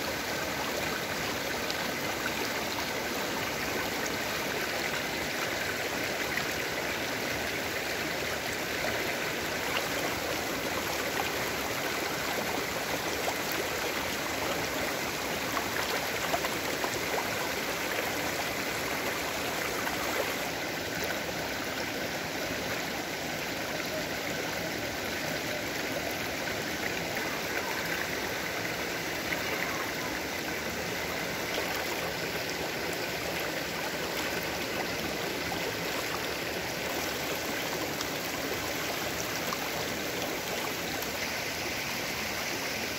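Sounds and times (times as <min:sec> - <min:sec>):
stream babbling over rocks: 0:00.0 - 0:42.9.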